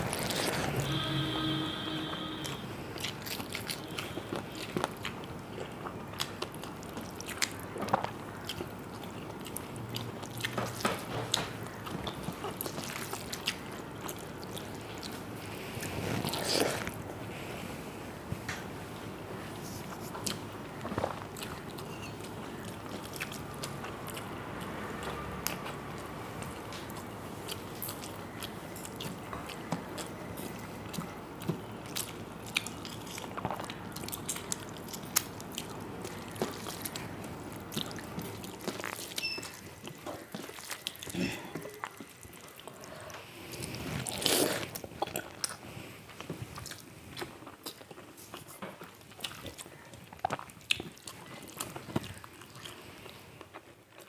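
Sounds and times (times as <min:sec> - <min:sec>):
person chewing food: 0:00.0 - 0:17.0, 0:19.3 - 0:54.0.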